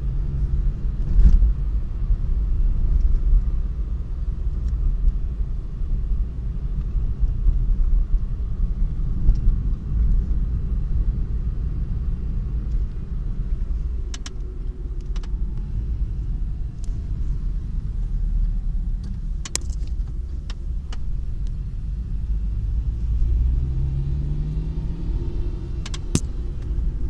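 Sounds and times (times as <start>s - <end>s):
car engine rumble: 0.0s - 27.0s.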